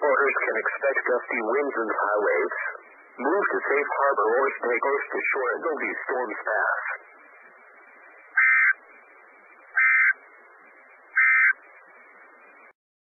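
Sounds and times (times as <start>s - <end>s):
faint radio hiss: 0.0s - 12.8s.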